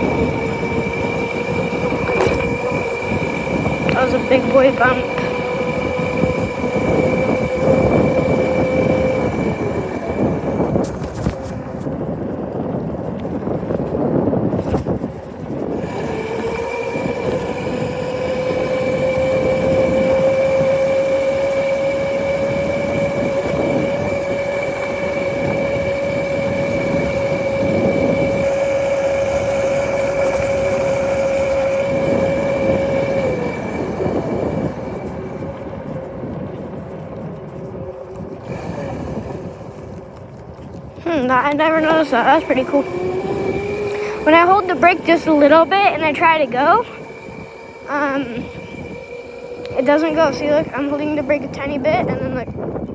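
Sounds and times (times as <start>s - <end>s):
motorcycle engine whine: 0.0s - 52.9s
wind rush: 0.0s - 52.9s.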